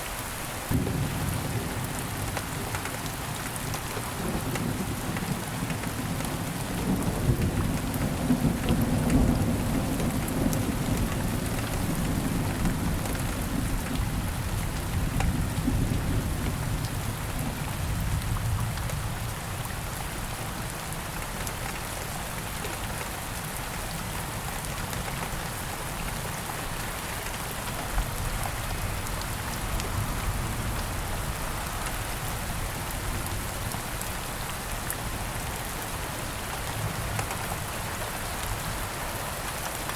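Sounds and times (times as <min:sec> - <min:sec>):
rain falling in woods: 0:00.0 - 0:39.9.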